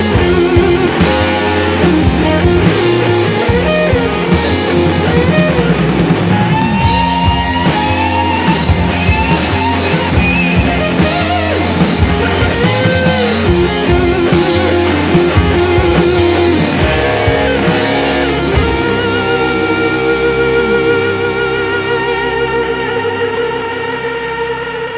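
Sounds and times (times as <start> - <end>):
rock music with electric guitar: 0.0 - 24.9.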